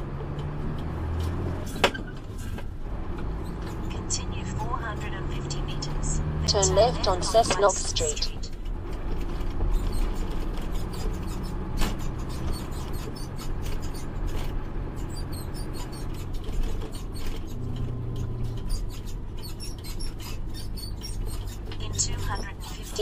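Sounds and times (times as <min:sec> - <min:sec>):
truck engine hum: 0:00.0 - 0:23.0.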